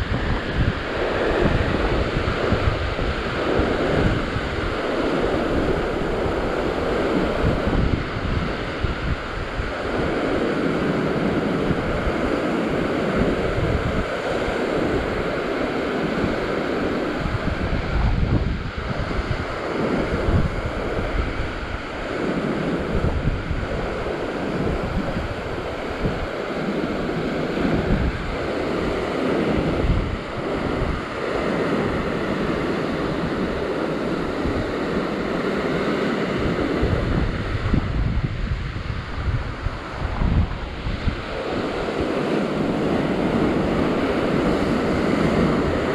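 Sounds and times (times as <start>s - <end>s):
surf washing over rocks: 0.0s - 45.9s
wind buffeting microphone: 0.0s - 45.9s.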